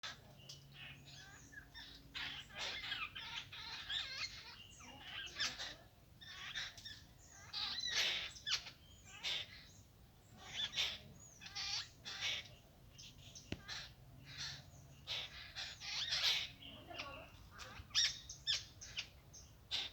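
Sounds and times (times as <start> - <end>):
bird chirps and squawks: 0.0 - 19.9.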